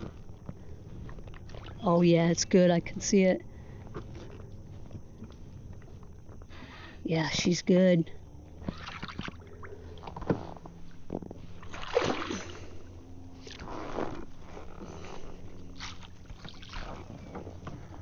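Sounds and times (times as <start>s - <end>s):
water splashing and sloshing: 0.0s - 6.5s, 8.5s - 18.0s.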